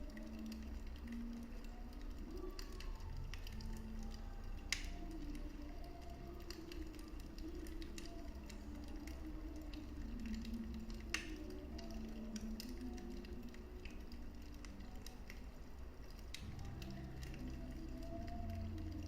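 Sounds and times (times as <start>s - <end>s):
fire popping: 0.0s - 19.0s
low fire rumble: 0.0s - 19.0s
wood fire crackling: 0.0s - 19.0s.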